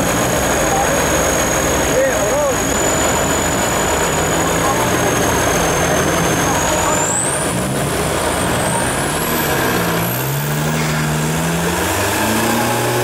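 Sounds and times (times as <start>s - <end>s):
noisy rumble: 0.0s - 13.0s
truck engine revving: 0.0s - 13.0s.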